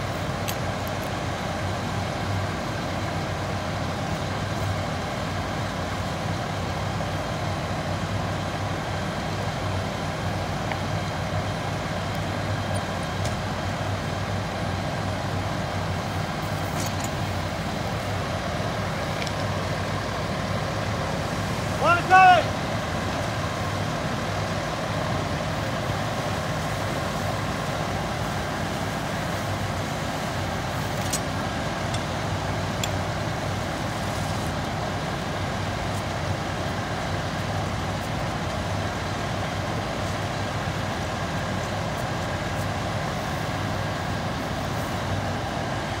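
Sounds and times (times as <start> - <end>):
fire engine idling drone: 0.0 - 46.0.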